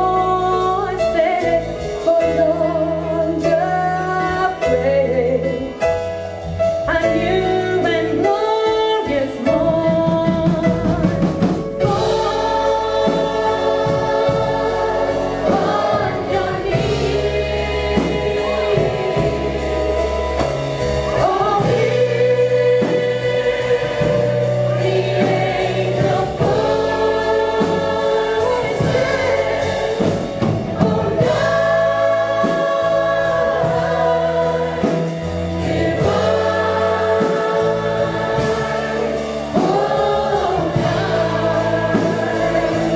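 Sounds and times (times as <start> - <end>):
band accompaniment with bass line: 0.0 - 42.9
group singing a christmas song: 6.9 - 42.9.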